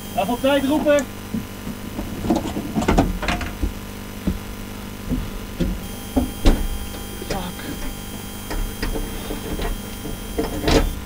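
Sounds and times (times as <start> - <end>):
steady low hum: 0.0 - 11.0
knocks and rustles in car cabin: 0.8 - 11.0.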